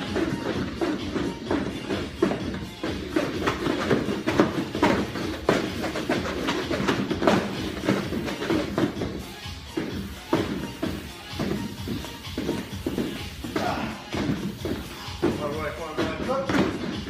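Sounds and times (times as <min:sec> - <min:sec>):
slaps and thuds: 0:00.1 - 0:09.2, 0:09.8 - 0:17.0.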